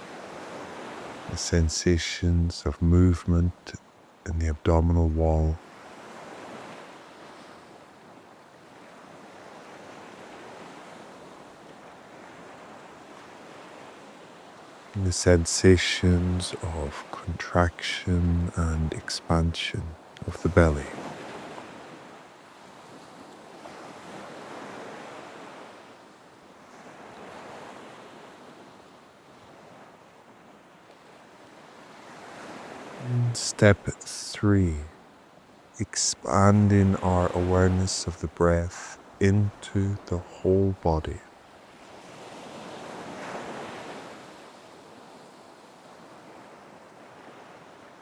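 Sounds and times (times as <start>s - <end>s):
ocean waves washing on shore: 0.0s - 3.6s, 4.4s - 48.0s.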